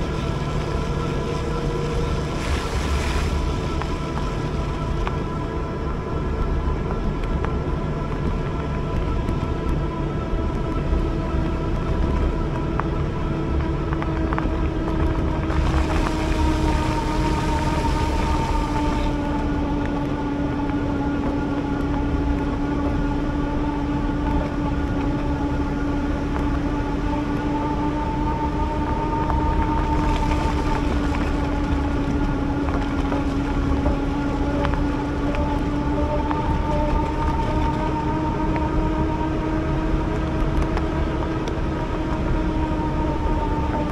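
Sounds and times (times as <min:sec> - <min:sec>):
electric motor whine: 0:00.0 - 0:43.9
wind rumble on microphone: 0:00.0 - 0:43.9.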